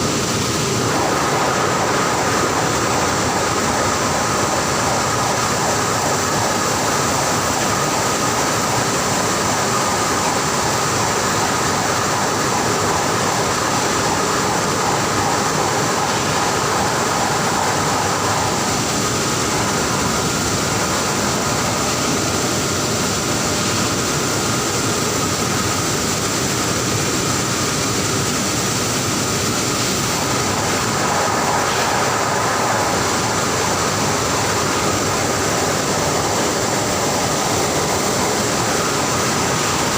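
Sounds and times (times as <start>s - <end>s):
industrial machinery noise: 0.0s - 39.9s.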